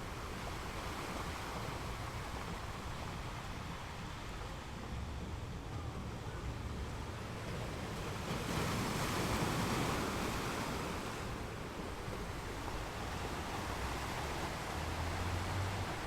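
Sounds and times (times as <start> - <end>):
low rumble of surf: 0.0 - 16.0
ocean waves washing onto beach: 0.0 - 16.0.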